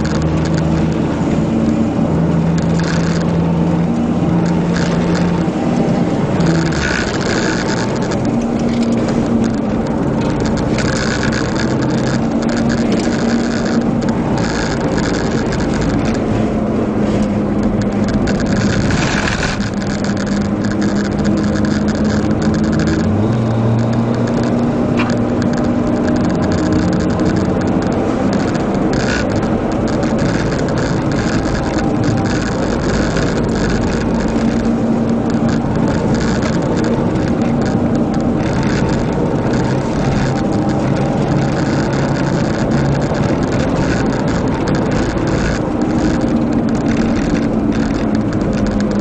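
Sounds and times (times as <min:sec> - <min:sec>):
race car engine running hard: 0:00.0 - 0:49.0
wind and road noise: 0:00.0 - 0:49.0.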